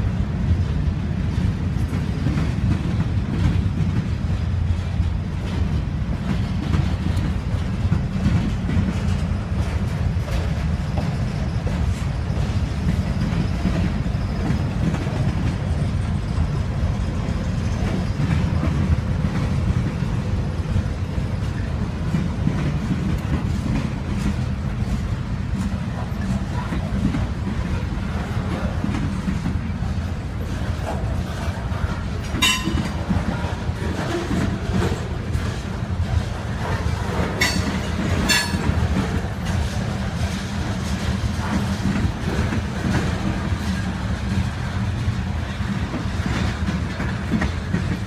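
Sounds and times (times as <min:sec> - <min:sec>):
freight train wheels rumbling on rails: 0:00.0 - 0:48.0.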